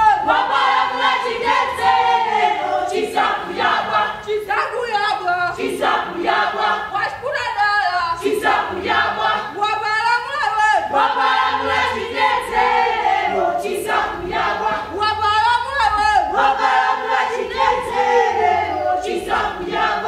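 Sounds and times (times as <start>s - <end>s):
group singing and calling out: 0.0s - 20.0s.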